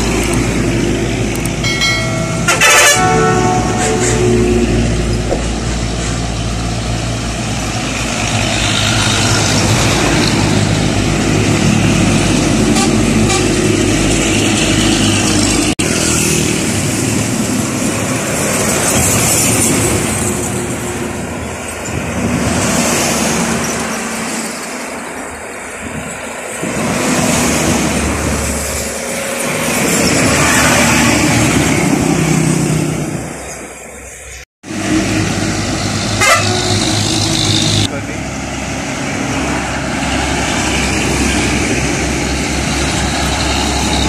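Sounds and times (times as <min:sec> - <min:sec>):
trucks and cars passing: 0:00.0 - 0:44.0.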